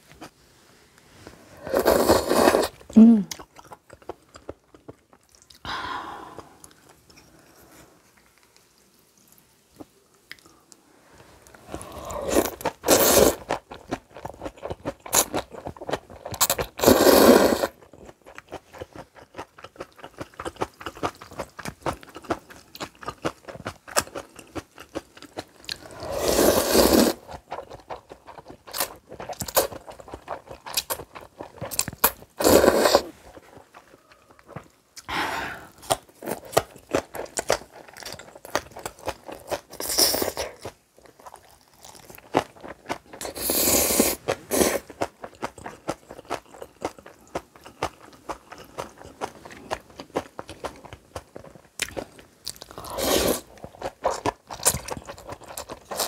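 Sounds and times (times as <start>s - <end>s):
chewing with crisp crunches: 2.4s - 5.7s, 11.4s - 26.2s, 26.8s - 35.1s, 35.7s - 56.0s.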